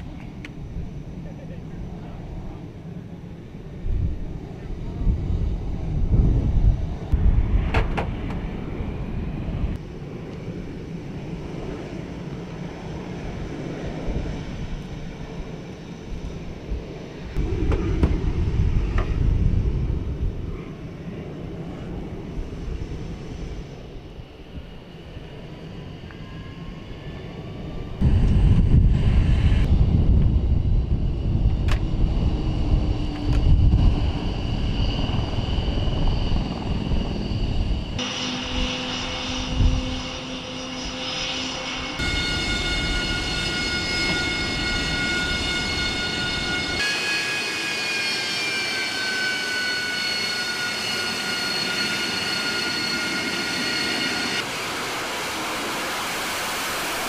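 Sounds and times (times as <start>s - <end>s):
jet engine high whine: 0.0s - 57.0s
jet engine low rumble: 0.0s - 57.0s.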